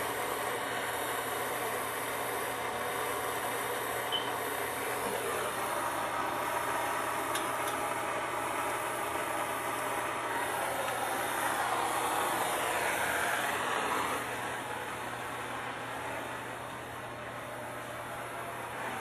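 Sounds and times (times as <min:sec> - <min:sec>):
gas torch flame roaring: 0:00.0 - 0:19.0.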